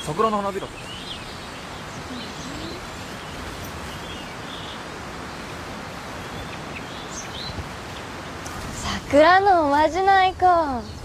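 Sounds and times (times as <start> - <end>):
faint bird chirps: 0.0 - 9.1
steady background hiss: 0.0 - 11.0.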